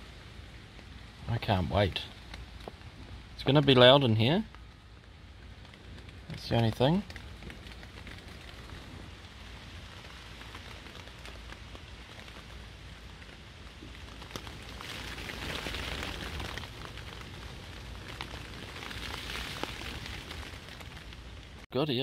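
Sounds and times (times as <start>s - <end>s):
rain pattering on a tent: 0.0s - 21.7s
sharp ticks of raindrops: 0.0s - 21.7s.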